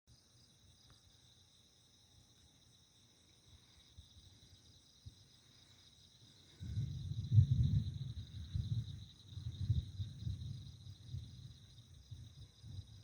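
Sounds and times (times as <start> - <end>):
night insects chorus: 0.1 - 13.0.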